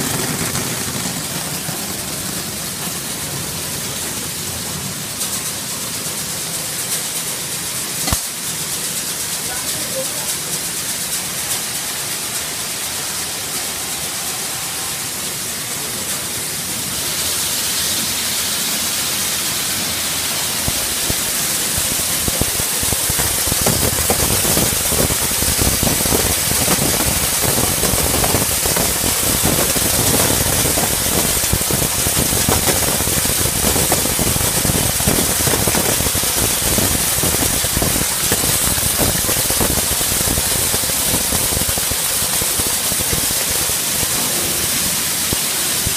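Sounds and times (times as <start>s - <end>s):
sorting machine hissing: 0.0s - 45.9s.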